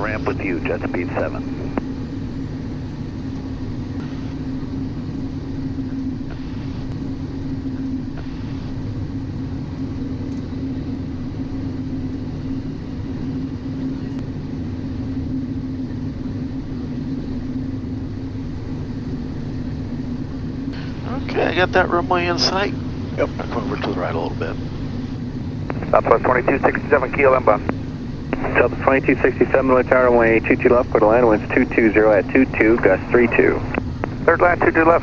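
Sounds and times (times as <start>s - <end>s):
jet engines and airflow rumbling: 0.0s - 35.0s
steady cockpit hum: 0.0s - 35.0s.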